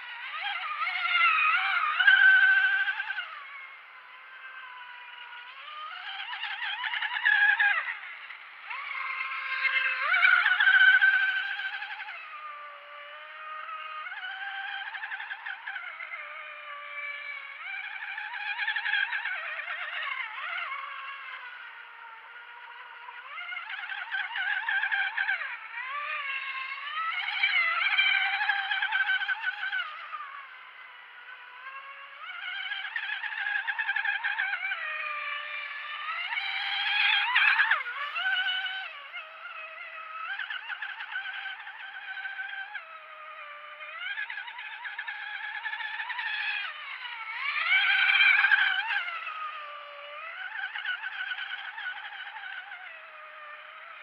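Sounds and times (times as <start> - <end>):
rc boat electric motor whining: 0.0 - 54.0.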